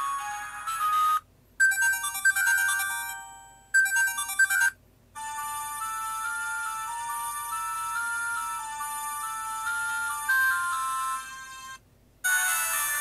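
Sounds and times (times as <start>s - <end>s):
phone ringtone melodies: 0.0s - 13.0s.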